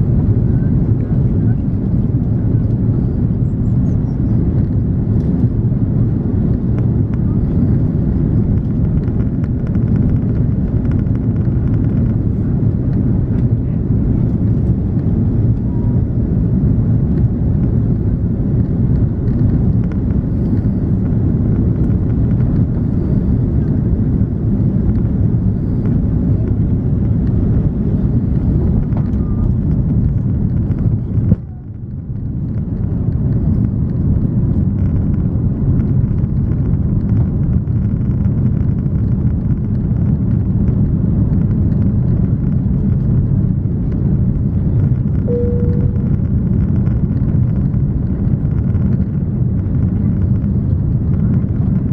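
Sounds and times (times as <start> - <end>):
airplane cabin engine noise: 0.0 - 51.9.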